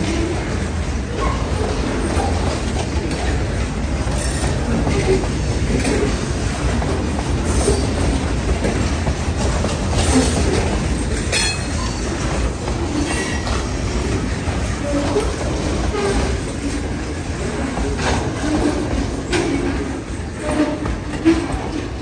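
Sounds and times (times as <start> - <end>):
train wheels rumbling on rails: 0.0 - 22.0
wheels clicking over rail joints: 0.0 - 22.0.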